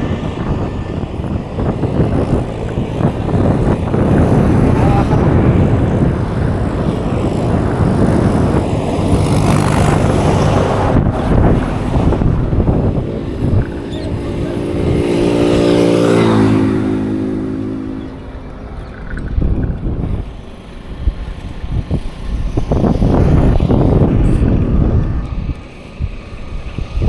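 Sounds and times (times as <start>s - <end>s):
motor vehicle passing: 0.0s - 27.0s
wind and road noise: 0.0s - 27.0s.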